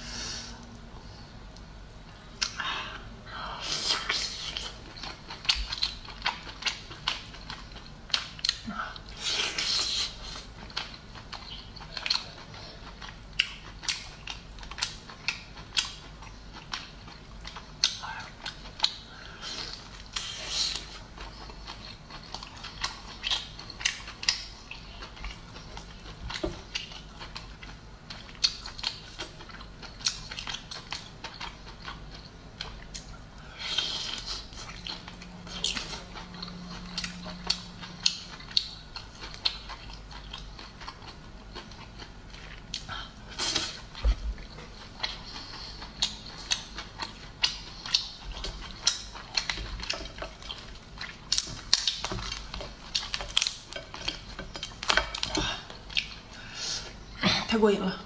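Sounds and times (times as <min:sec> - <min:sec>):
person chewing wetly: 0:00.6 - 0:03.0, 0:03.6 - 0:57.1.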